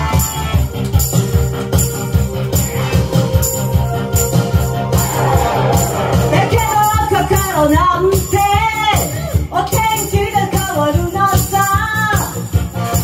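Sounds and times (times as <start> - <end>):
drum beat and cymbals: 0.0 - 13.0
live band playing: 0.0 - 13.0.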